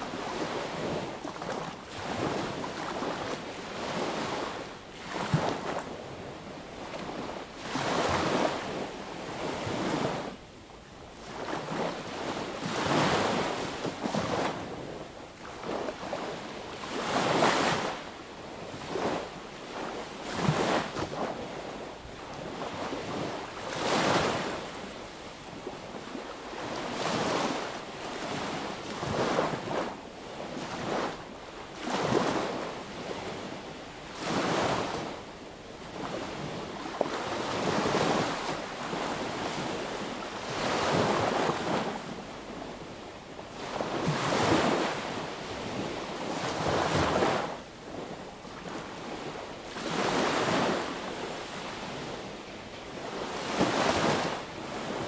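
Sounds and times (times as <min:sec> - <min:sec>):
small waves breaking on beach: 0:00.0 - 0:10.4, 0:11.2 - 0:55.0.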